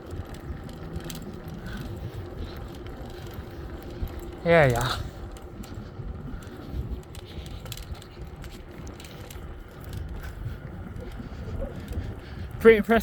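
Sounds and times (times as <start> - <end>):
bicycle clicks and rattles: 0.0 - 13.0
wind rumble on microphone: 0.0 - 13.0.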